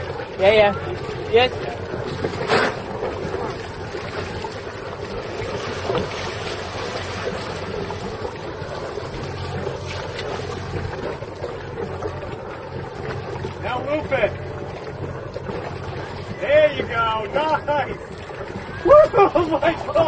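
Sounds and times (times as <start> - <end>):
low boat engine hum: 0.0 - 20.0
water rushing: 0.0 - 20.0.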